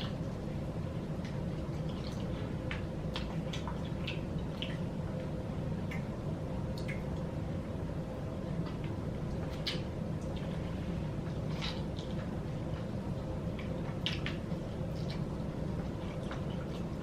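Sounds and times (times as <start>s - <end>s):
low background hum: 0.0s - 17.0s
chewing with mouth smacks: 1.2s - 7.4s, 8.5s - 17.0s.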